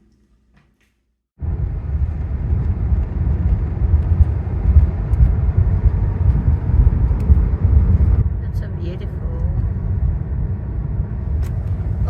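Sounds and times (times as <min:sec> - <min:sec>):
car road and engine rumble: 0:01.4 - 0:12.0.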